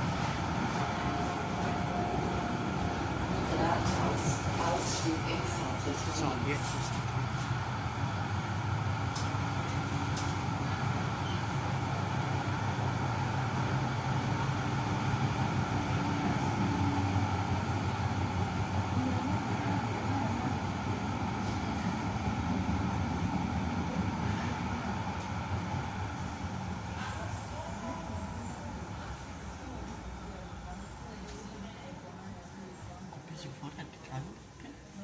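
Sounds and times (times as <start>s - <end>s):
tram rumbling: 0.0s - 33.2s
street noise: 0.0s - 33.3s.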